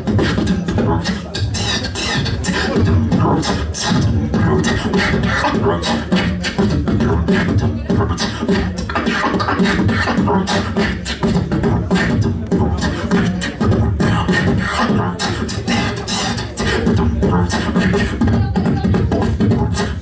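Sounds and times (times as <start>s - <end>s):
amplified beatboxing: 0.0s - 20.0s.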